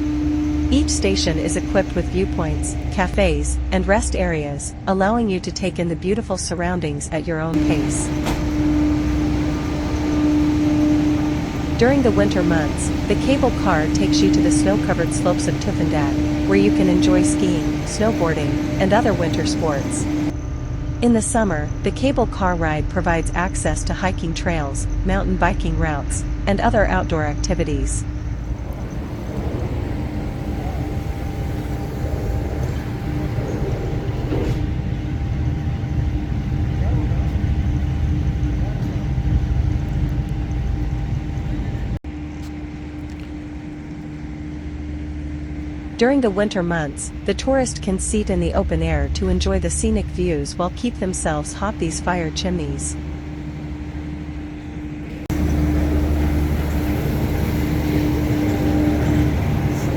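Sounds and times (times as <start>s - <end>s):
faint even hum: 0.0s - 59.9s
steady low rumble: 0.0s - 59.9s.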